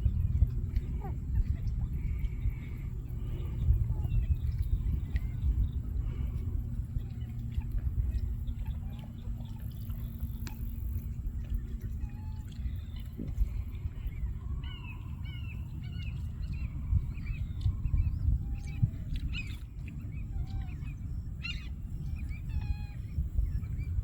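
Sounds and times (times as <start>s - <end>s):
birds calling: 0.0s - 24.0s
steady low rumble: 0.0s - 24.0s.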